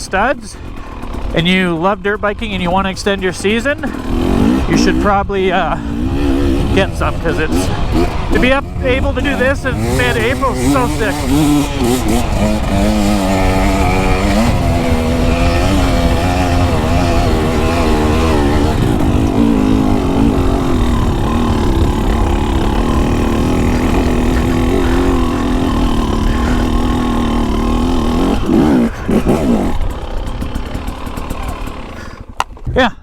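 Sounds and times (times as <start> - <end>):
dirt bike engine revving: 0.0 - 32.6.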